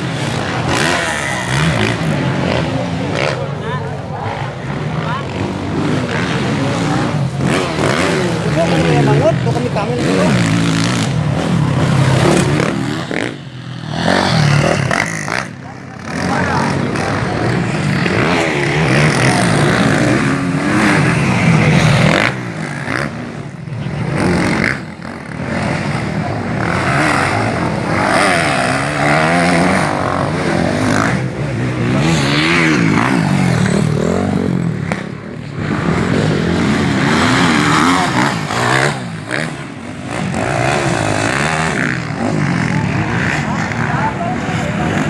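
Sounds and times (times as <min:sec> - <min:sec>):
motocross bike engines revving: 0:00.0 - 0:45.0.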